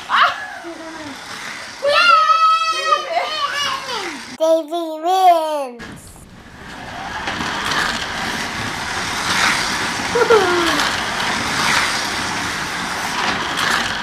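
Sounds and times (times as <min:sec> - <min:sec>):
electric motors whining: 0:00.0 - 0:04.4, 0:06.2 - 0:14.0
slot cars rushing on track: 0:00.0 - 0:04.4, 0:06.3 - 0:14.0.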